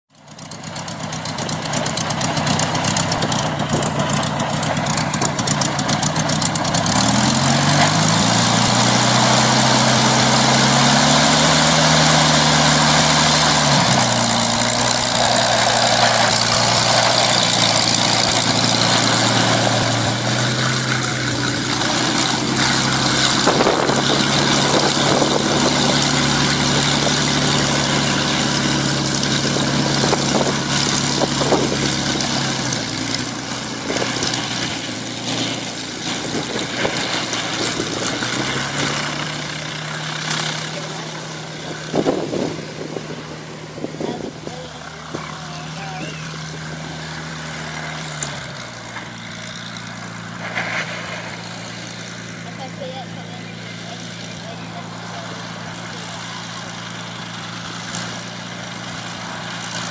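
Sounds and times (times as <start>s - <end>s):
aircraft engine running: 0.1s - 59.9s
heavy rushing noise: 1.5s - 59.9s.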